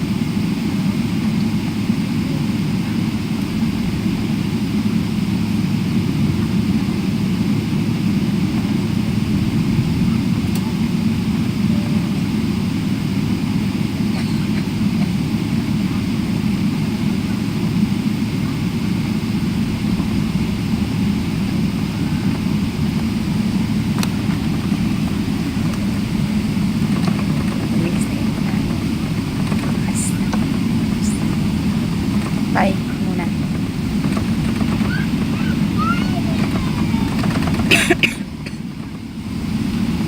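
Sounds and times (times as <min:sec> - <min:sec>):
airliner cabin noise in flight: 0:00.0 - 0:40.0.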